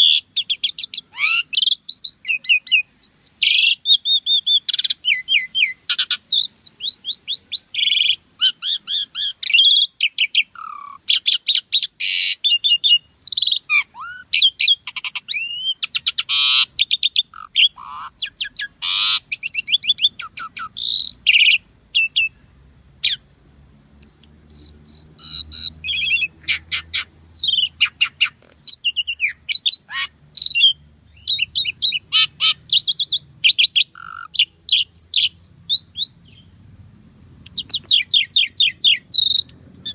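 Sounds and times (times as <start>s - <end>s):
starling chattering song: 0.0s - 23.3s, 24.0s - 36.6s, 37.4s - 39.9s.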